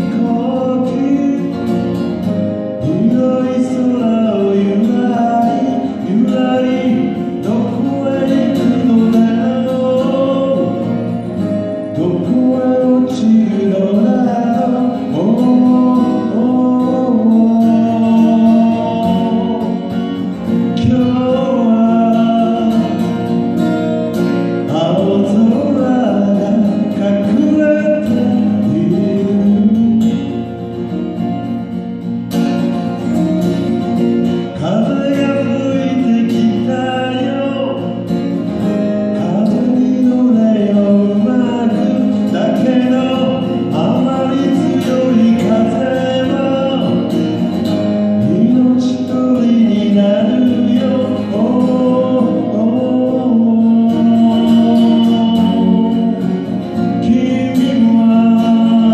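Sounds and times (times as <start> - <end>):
acoustic guitar: 0.0 - 58.9
man singing folk song: 0.0 - 58.9.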